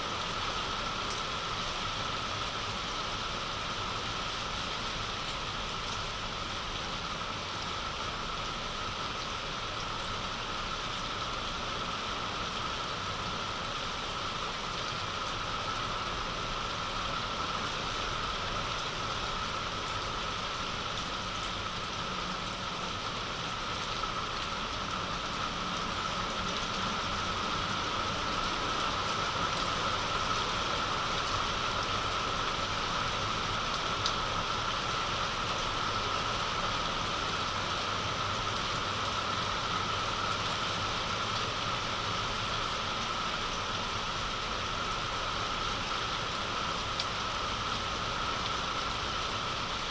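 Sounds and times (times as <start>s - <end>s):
heavy rain hissing: 0.1s - 49.9s.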